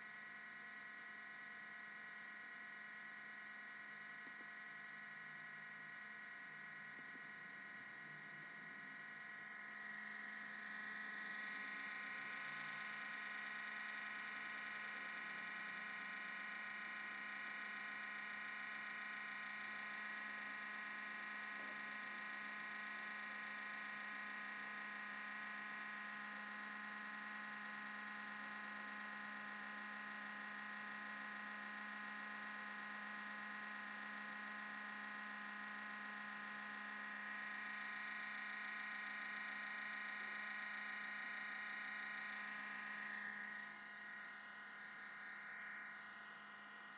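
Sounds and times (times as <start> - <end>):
laptop cooling fan whine: 0.0 - 46.9.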